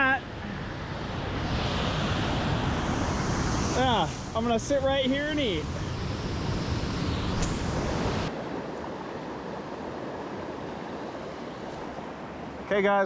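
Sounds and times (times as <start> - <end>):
wind rumble on microphone: 0.0 - 12.6.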